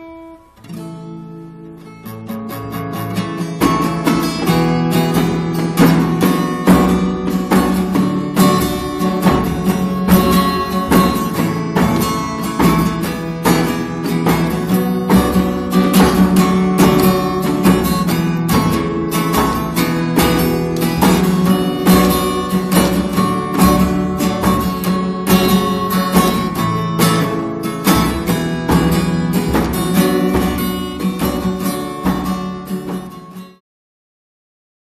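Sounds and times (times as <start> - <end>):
acoustic guitar music: 0.0 - 33.6.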